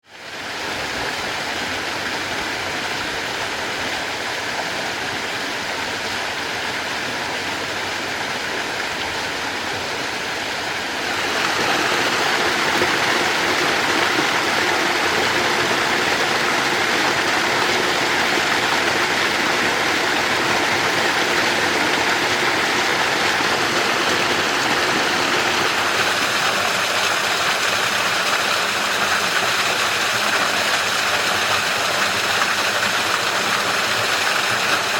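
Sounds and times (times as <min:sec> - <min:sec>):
stream rushing between rocks: 0:00.1 - 0:34.9.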